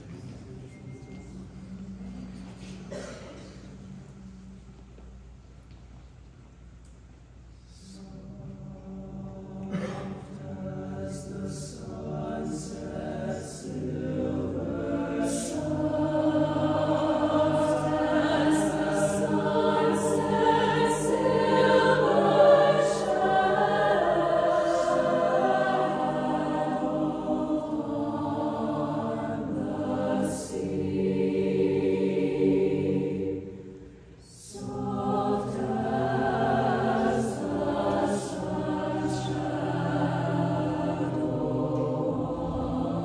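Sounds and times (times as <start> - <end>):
choir singing unaccompanied: 7.7 - 43.0.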